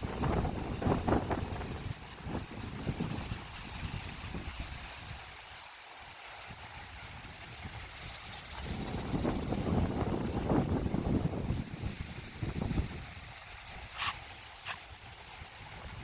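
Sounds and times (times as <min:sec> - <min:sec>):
wind buffeting microphone: 0:00.0 - 0:05.3, 0:06.5 - 0:14.4.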